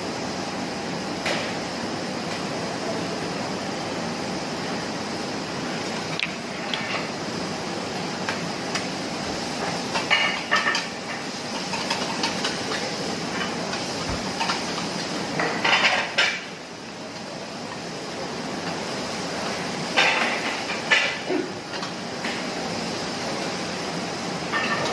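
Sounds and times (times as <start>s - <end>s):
steady hiss: 0.0s - 24.9s.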